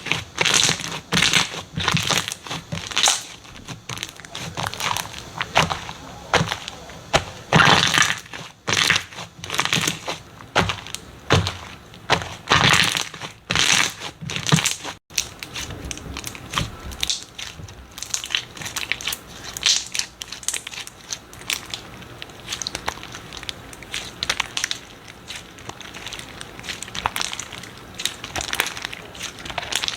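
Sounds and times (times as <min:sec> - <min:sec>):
slime crunching and crackling: 0:00.0 - 0:29.9.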